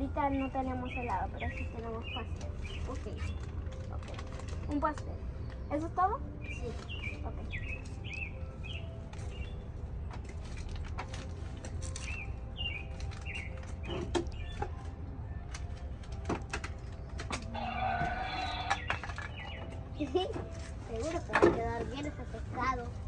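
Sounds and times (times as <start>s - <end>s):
small birds chirping: 0.0s - 10.6s, 11.2s - 15.4s, 16.7s - 23.0s.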